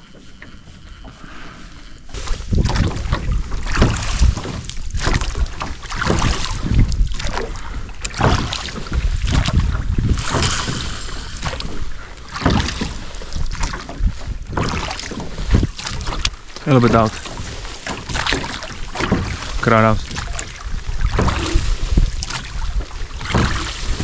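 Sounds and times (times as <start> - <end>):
oars pulling through water: 0.0 - 24.0
water splashing and lapping: 0.0 - 24.0
wind rumbling on microphone: 0.0 - 24.0.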